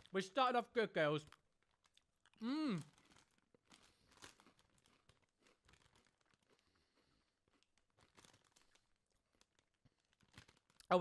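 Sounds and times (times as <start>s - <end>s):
foil packet crinkling: 0.0s - 11.0s.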